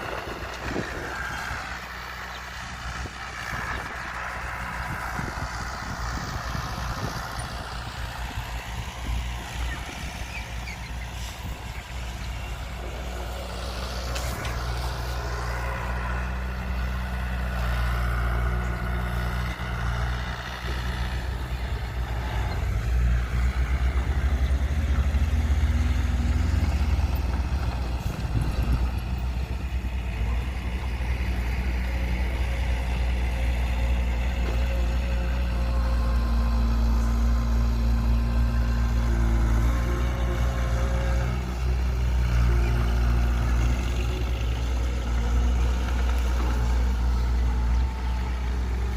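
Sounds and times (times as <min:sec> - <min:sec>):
diesel machinery engine hum: 0:00.0 - 0:48.9.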